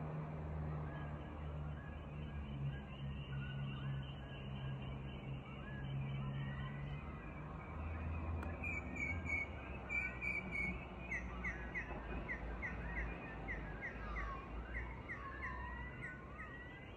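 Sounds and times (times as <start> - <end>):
birds calling and singing: 0.7 - 16.9.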